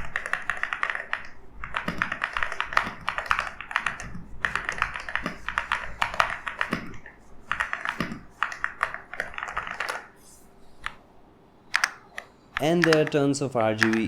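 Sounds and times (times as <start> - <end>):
fast typing on mechanical keyboard: 0.0 - 11.0, 11.7 - 14.0.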